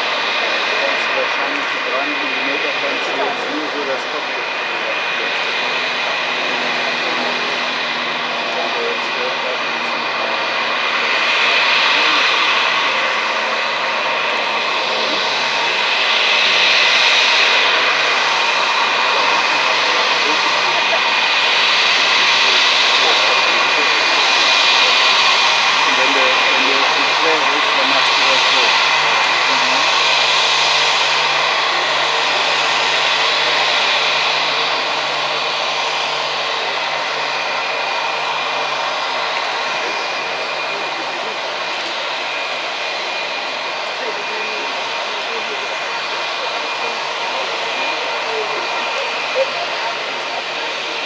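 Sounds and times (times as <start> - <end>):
jet engines whining: 0.0 - 51.0.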